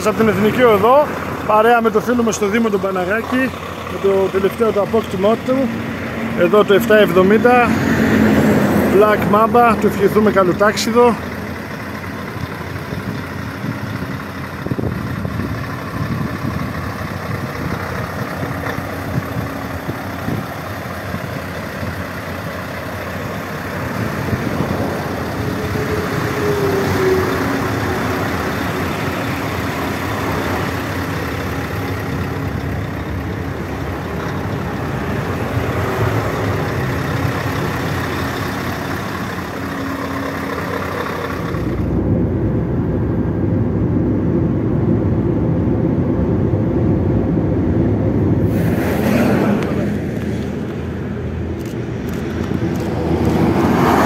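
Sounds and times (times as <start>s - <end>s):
diesel engine idling: 0.0s - 48.8s, 49.4s - 54.0s
deep engine sound: 0.0s - 54.0s.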